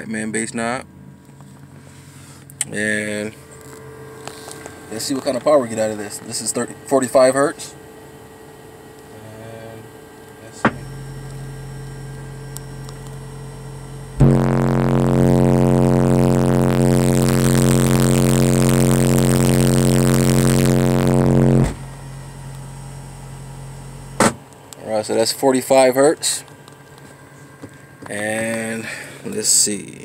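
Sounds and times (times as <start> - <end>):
loud subwoofer test tone drone: 0.0 - 30.0.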